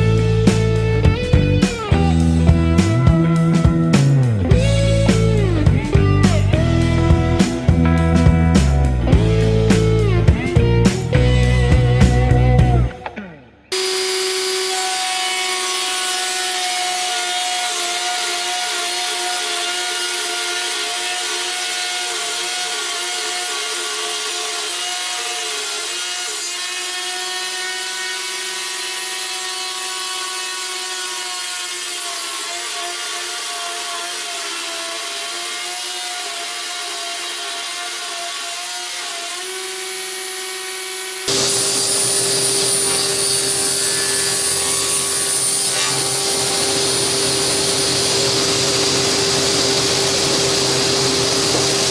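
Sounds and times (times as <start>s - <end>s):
panel saw running: 0.0s - 51.9s
router high whine: 0.0s - 51.9s.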